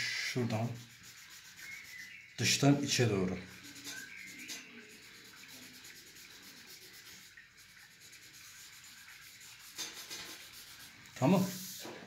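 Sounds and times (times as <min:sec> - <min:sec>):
tissue rubbing charcoal on paper: 0:00.0 - 0:12.0.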